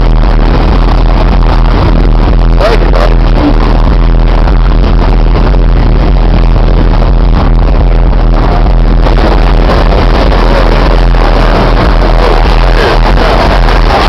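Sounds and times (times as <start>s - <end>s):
loud bass-heavy car stereo music: 0.0s - 14.0s.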